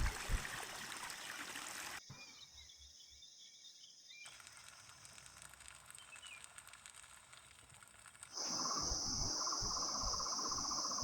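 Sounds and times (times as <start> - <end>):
high insect hum: 2.1 - 11.0.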